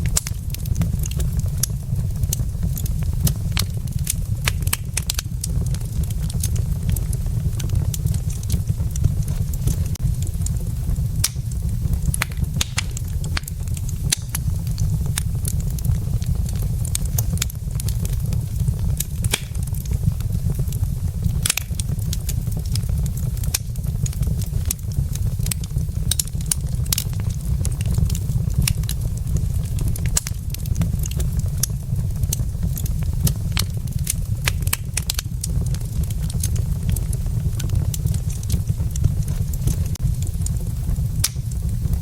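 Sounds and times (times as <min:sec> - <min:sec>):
logs crackling in fireplace: 0:00.0 - 0:42.0.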